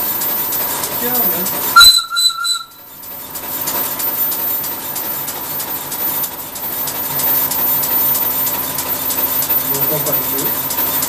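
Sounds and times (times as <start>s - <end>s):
locomotive exhaust beats: 0.0s - 11.0s.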